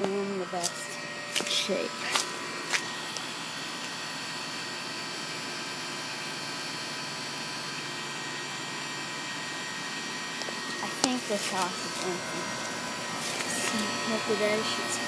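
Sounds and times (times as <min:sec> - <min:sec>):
air conditioner fan whoosh: 0:00.0 - 0:15.0.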